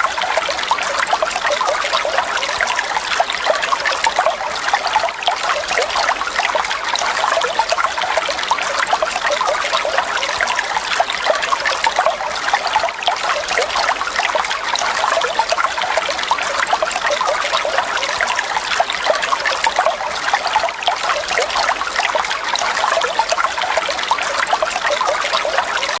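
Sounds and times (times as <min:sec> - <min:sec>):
water trickling: 0:00.0 - 0:26.0.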